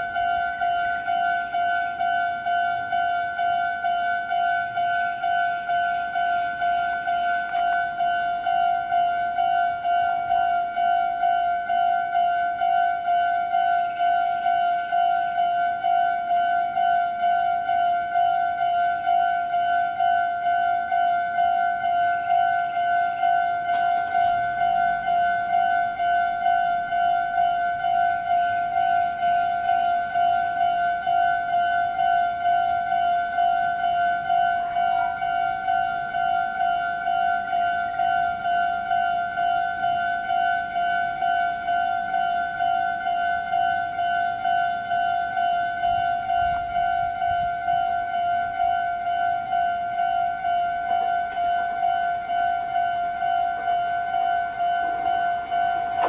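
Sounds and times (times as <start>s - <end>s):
railroad crossing bell dinging: 0.0s - 56.0s.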